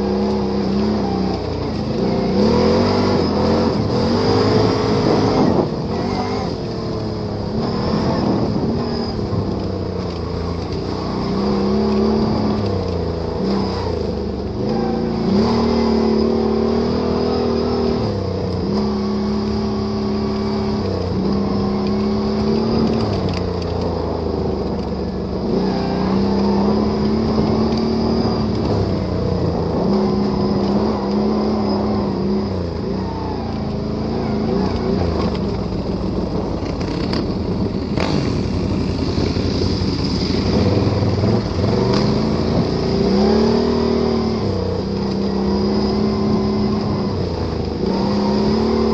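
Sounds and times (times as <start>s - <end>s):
atv engine revving: 0.0s - 48.9s.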